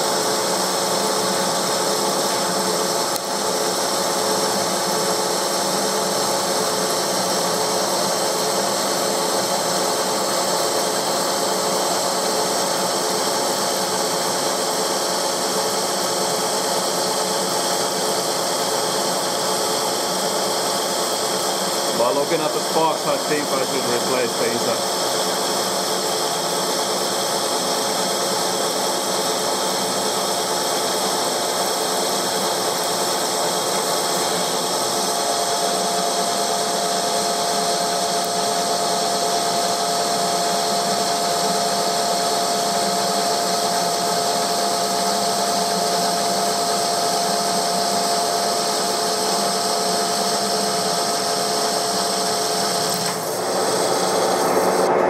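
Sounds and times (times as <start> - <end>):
lathe cutting metal: 0.0 - 55.0.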